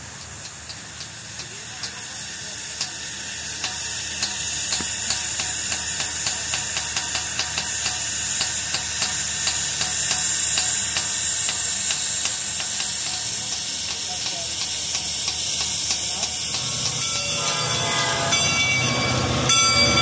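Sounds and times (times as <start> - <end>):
steam locomotive hissing steam: 0.0 - 20.0.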